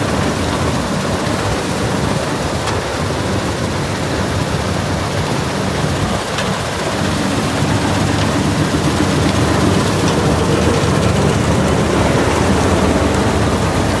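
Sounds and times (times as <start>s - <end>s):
combine harvester running: 0.0s - 14.0s.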